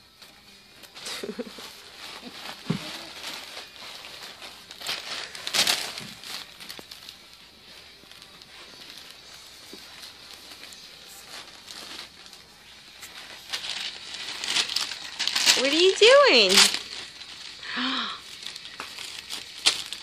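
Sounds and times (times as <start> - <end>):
paper crumpling and tearing: 0.8 - 20.0.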